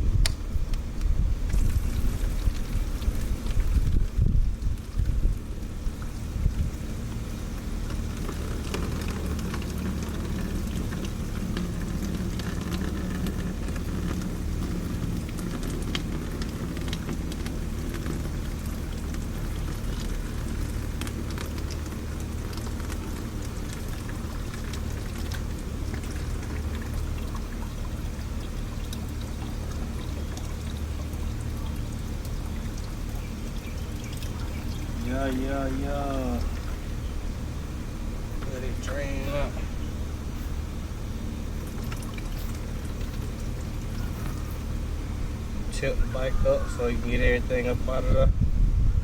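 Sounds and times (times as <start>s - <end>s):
coolant pouring into a jug: 1.4s - 48.4s.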